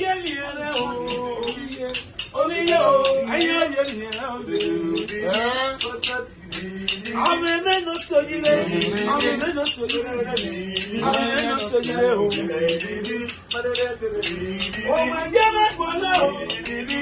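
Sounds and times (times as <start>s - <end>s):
men singing: 0.0s - 17.0s
shaker rattle beat: 0.0s - 17.0s.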